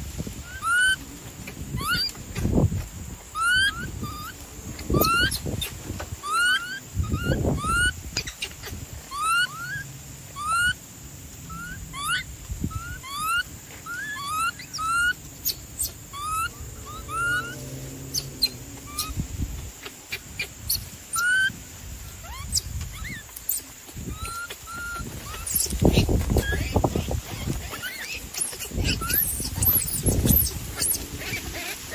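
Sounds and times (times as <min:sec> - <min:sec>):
birds peeping: 0:00.0 - 0:31.9.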